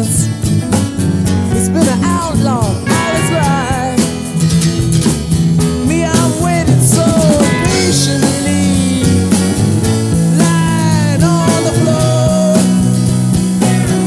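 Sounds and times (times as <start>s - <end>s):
rock band playing: 0.0s - 14.0s
sliding guitar melody: 0.0s - 14.0s.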